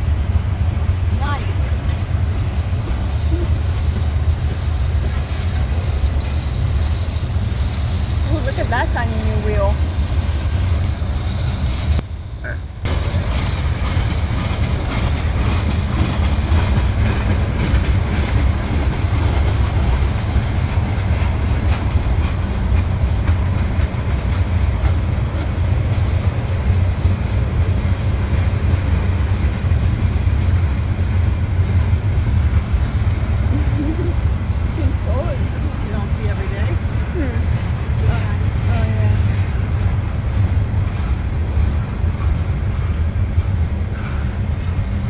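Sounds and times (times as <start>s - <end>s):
steel wheels rumbling on rail: 0.0s - 45.0s.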